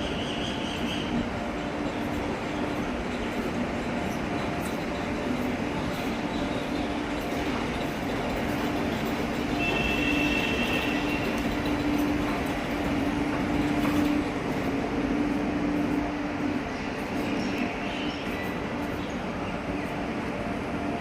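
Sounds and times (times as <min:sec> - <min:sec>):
train electric hum: 0:00.0 - 0:21.0
train rumbling: 0:00.0 - 0:21.0.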